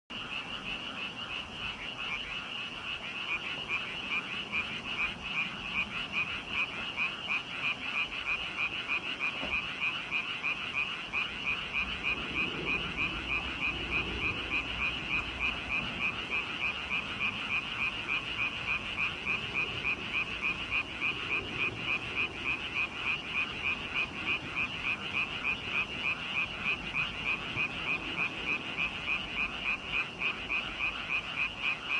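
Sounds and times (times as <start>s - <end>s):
frogs croaking: 0.1s - 31.9s.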